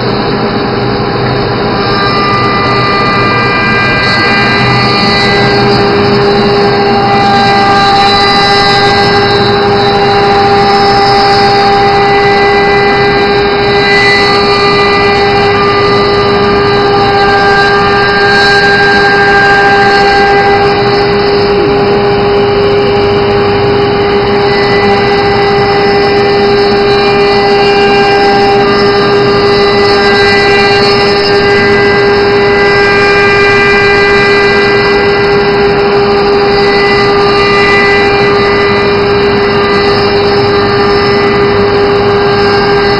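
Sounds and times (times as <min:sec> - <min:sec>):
machine noise: 0:00.0 - 0:42.9
router spindle whine: 0:00.0 - 0:42.9.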